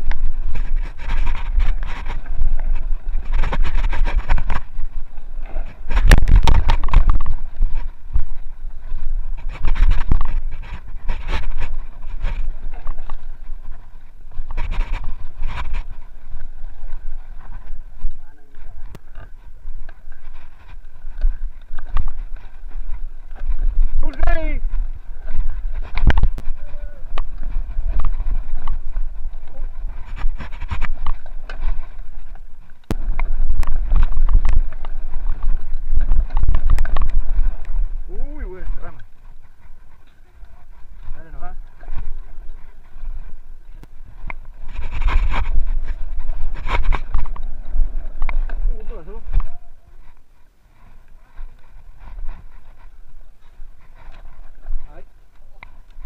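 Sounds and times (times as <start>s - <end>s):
bike rattling over rocks: 0.0s - 49.7s
wind buffeting microphone: 0.0s - 56.0s.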